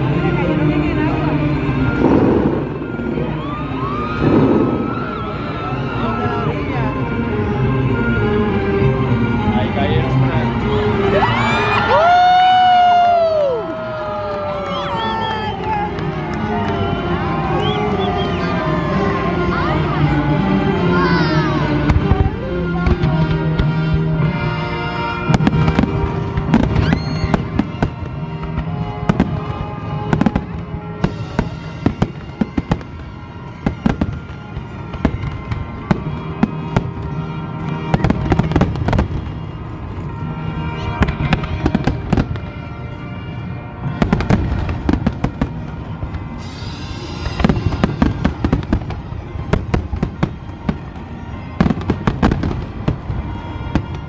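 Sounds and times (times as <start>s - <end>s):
fireworks bangs and crackles: 0.0s - 54.0s
music with long held tones: 0.0s - 54.0s.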